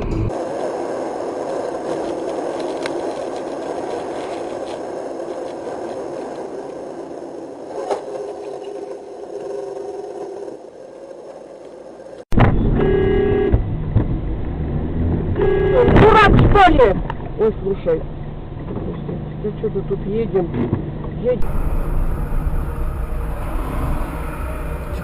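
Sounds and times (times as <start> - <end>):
car road noise rumbling: 0.0 - 25.0.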